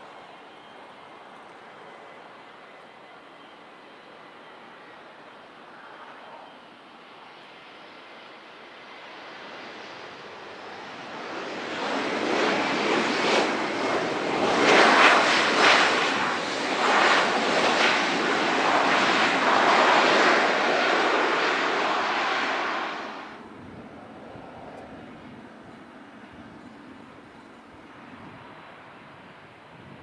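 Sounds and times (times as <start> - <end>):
aircraft engine rushing: 0.2 - 30.0.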